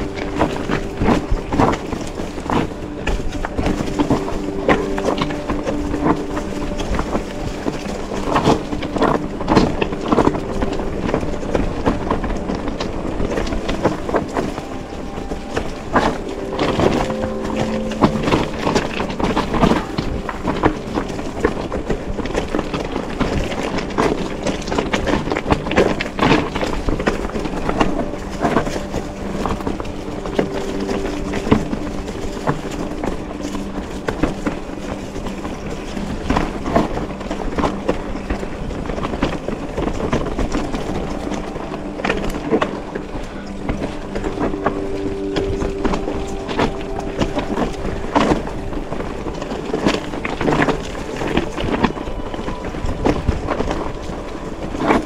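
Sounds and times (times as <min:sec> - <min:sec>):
bike rattling over rocks: 0:00.0 - 0:55.0
steady rushing noise: 0:00.0 - 0:55.0.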